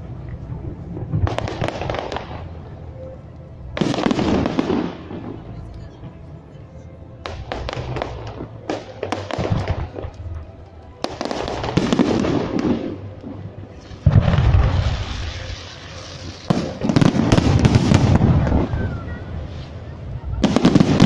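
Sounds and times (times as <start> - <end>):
fireworks bursting: 1.0 - 3.1, 3.7 - 5.9, 7.2 - 10.4, 11.0 - 21.0.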